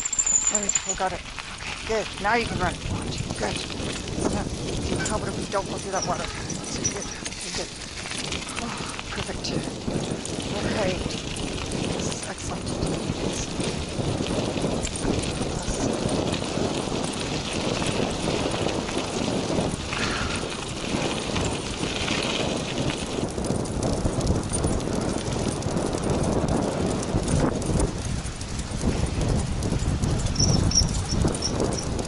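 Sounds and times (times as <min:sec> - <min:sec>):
wheels rolling and rattling: 0:00.0 - 0:32.0.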